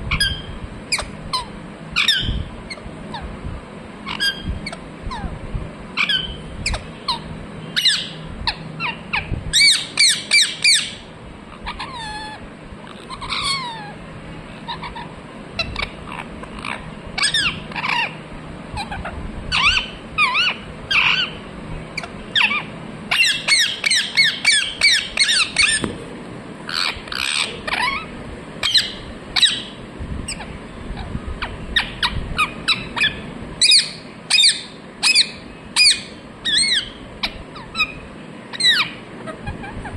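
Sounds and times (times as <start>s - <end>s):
parrot chirping and squawking: 0.1s - 3.4s, 4.0s - 25.9s, 26.7s - 39.9s.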